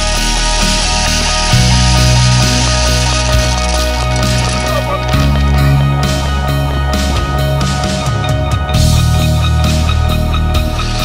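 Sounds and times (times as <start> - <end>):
instrumental music with sustained chords: 0.0 - 11.0.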